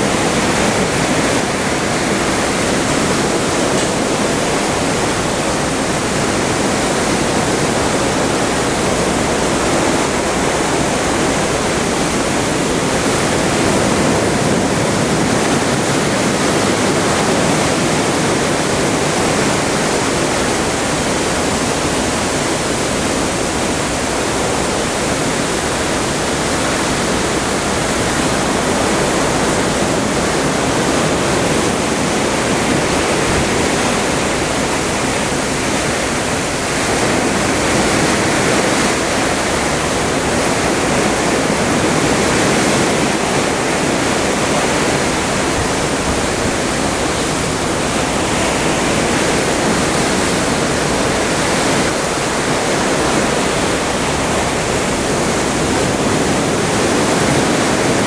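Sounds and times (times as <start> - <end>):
sea water rushing past ship: 0.0 - 58.0.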